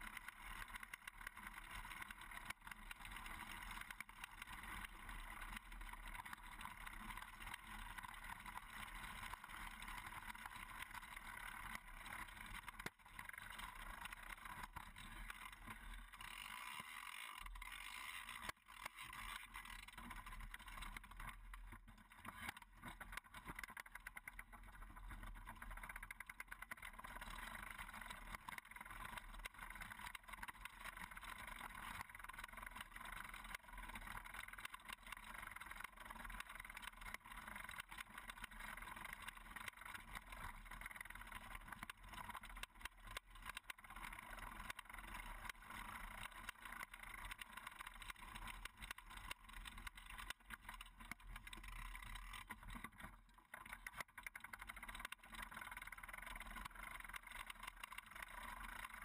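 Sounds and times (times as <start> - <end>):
wheels rolling over gravel: 0.0 - 59.0.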